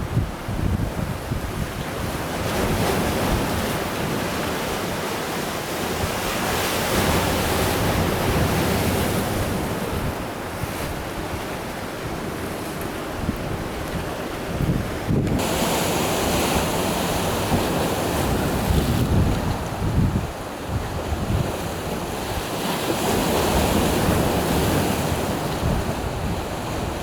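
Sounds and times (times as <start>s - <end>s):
wind buffeting microphone: 0.0s - 4.9s, 5.8s - 27.0s
surf washing against shore: 0.0s - 27.0s.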